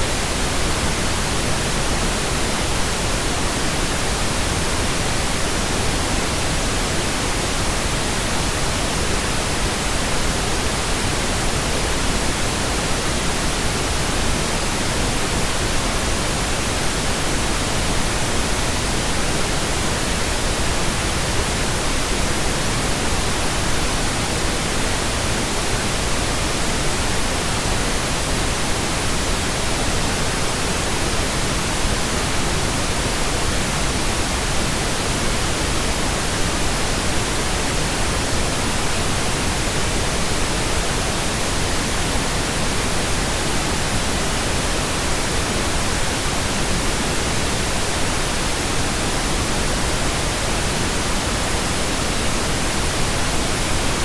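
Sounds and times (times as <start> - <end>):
steady pink noise: 0.0 - 54.0.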